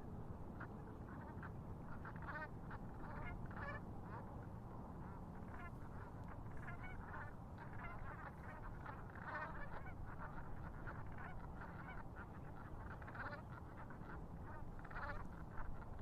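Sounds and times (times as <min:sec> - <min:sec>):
waterfowl quacking and honking: 0:00.6 - 0:04.3, 0:05.0 - 0:16.0.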